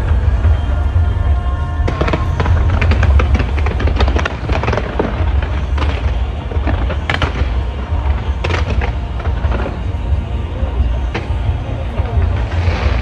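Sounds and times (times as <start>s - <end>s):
fireworks crackling bangs: 0.0s - 13.0s
heavy low rumble: 0.0s - 13.0s.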